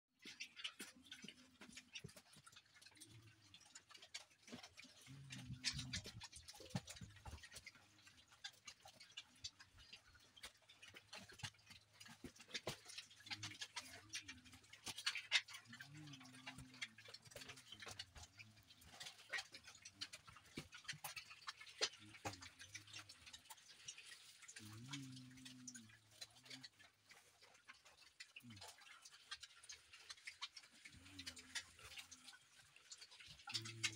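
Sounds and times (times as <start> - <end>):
piglets chewing and smacking: 0.2 - 33.9.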